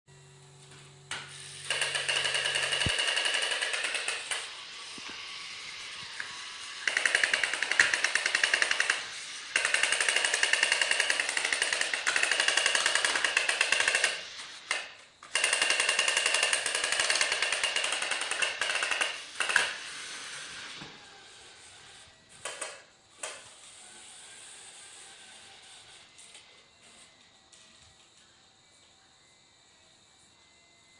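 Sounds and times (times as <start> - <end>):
toy train motor buzzing clatter: 0.1 - 27.8.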